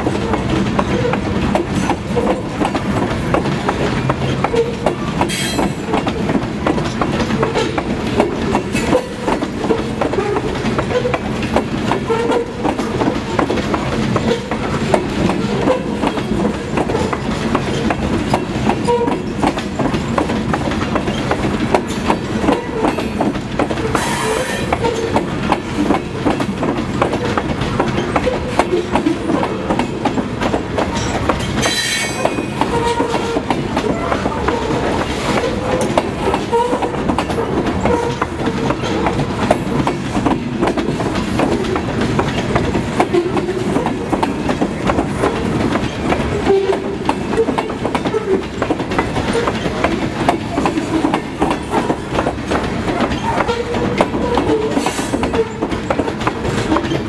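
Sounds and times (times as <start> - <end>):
clacking over rail joints: 0.0 - 57.0
train wheels rumbling on rail: 0.0 - 57.0.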